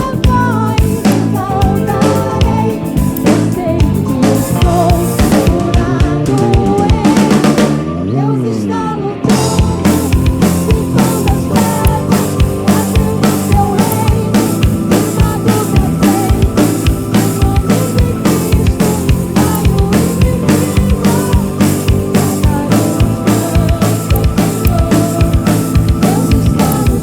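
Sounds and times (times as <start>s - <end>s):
drum kit beat: 0.0s - 7.9s, 9.3s - 27.0s
live band playing: 0.0s - 8.1s, 9.2s - 27.0s
melodic lead line: 0.0s - 27.0s.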